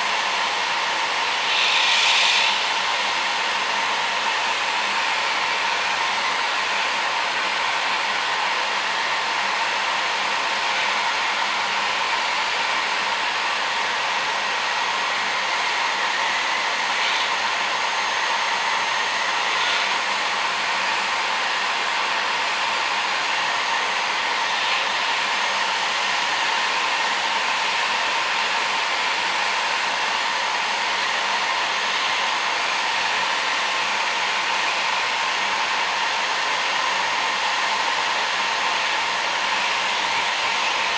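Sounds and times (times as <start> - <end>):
heat gun blowing: 0.0 - 40.9.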